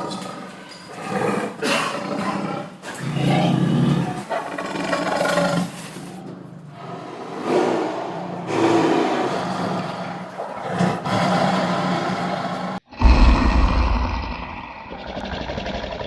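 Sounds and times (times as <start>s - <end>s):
lion roaring: 0.0s - 16.0s.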